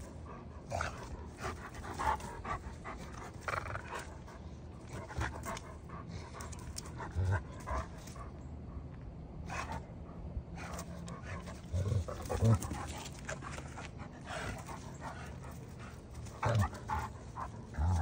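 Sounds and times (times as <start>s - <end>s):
dogs panting: 0.0s - 18.0s.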